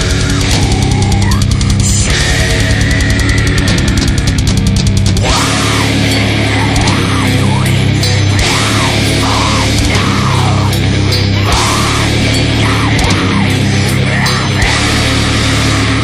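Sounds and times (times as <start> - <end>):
heavy rock music with electric guitar: 0.0 - 16.0.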